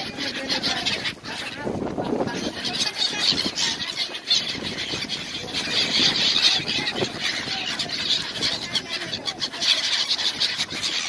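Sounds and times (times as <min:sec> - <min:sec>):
gulls calling: 0:00.0 - 0:11.0.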